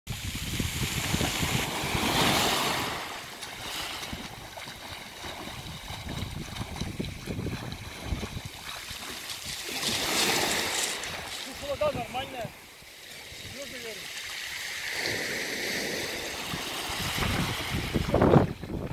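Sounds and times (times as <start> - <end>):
wind buffeting microphone: 0.1 - 12.6, 15.0 - 18.9
waves washing onto pebbles: 0.1 - 18.9.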